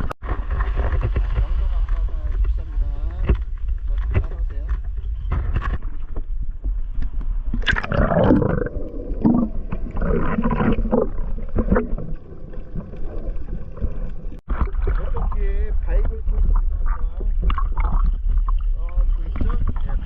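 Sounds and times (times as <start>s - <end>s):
low rumble of water on microphone: 0.0s - 20.0s
water gurgling and sloshing: 0.0s - 20.0s.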